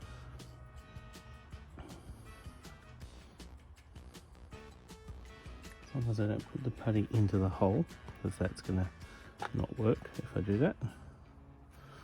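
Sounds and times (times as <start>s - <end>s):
quiet background music with bass: 0.0s - 12.0s.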